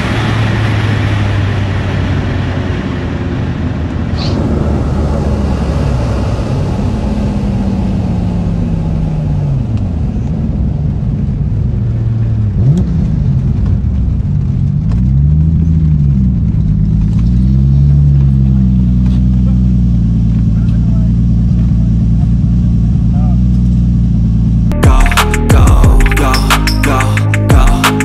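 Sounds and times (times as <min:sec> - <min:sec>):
wind and road noise: 0:00.0 - 0:24.7
car engine revving: 0:00.0 - 0:28.0.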